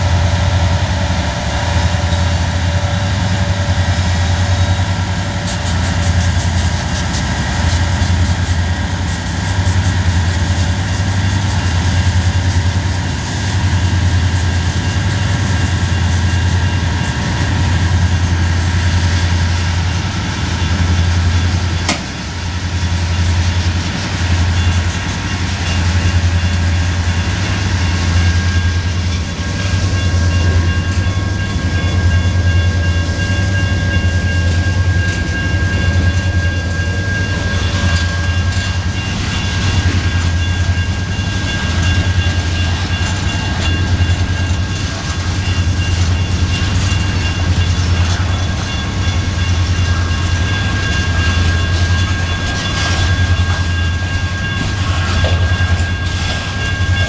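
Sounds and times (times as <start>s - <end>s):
rail joints clicking: 0.0s - 57.0s
train wheels rumbling on rails: 0.0s - 57.0s.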